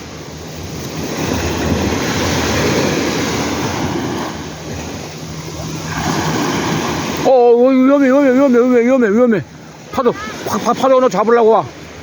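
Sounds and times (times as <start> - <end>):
sea waves washing up beach: 0.0 - 12.0
wind buffeting microphone: 0.0 - 12.0.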